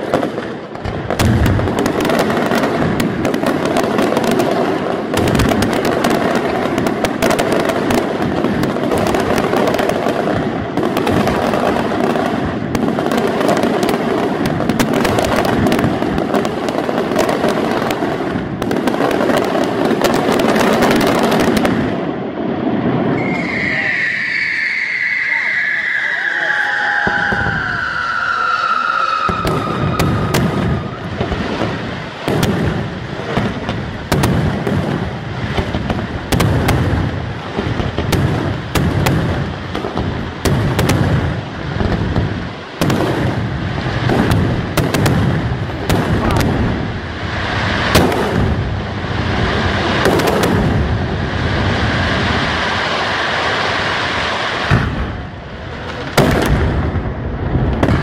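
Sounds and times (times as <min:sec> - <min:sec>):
fireworks bangs: 0:00.0 - 0:58.0
fireworks crackling hiss: 0:00.0 - 0:58.0.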